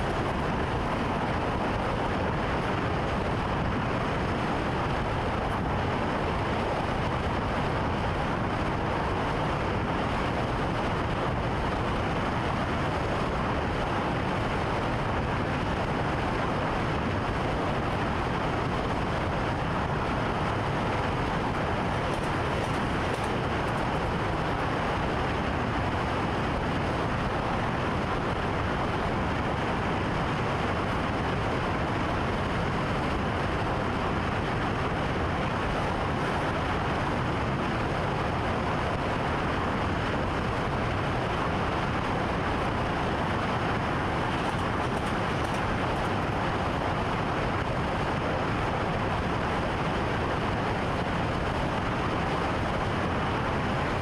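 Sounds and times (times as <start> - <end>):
train rumble and hiss: 0.0 - 54.0.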